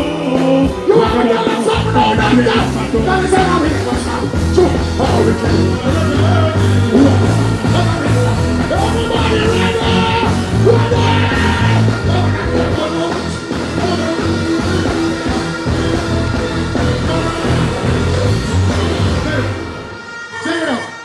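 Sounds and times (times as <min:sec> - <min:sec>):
man singing and chanting: 0:00.0 - 0:19.6
heavy bass line: 0:00.0 - 0:19.9
reggae band playing: 0:00.0 - 0:21.0.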